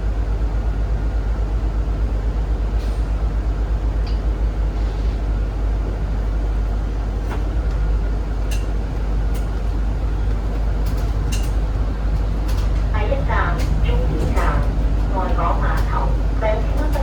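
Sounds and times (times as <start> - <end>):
bus cabin rumble: 0.0 - 17.0.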